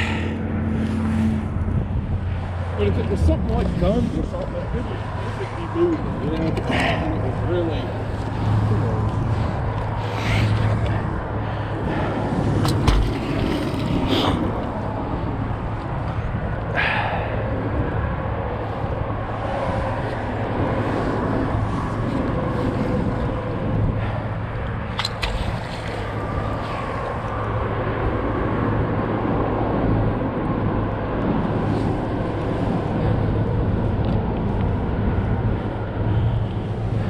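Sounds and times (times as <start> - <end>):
low engine hum: 0.0 - 37.0.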